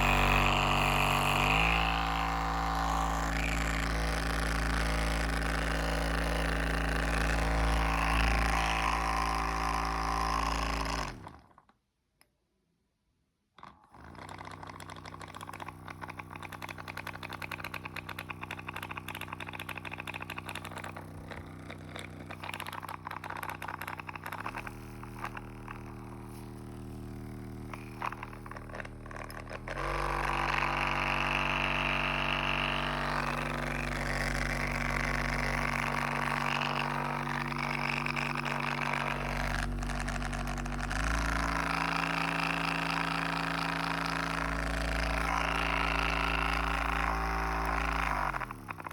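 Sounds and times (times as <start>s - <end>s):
fast clicking rattle: 0.0s - 11.3s, 14.0s - 48.9s
small engine running: 0.0s - 11.6s, 13.9s - 48.9s.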